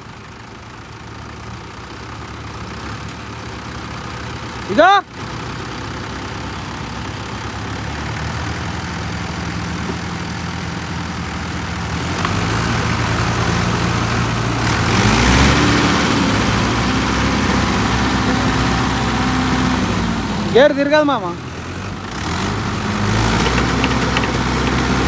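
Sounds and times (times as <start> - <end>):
tractor diesel engine revving: 3.6 - 25.0.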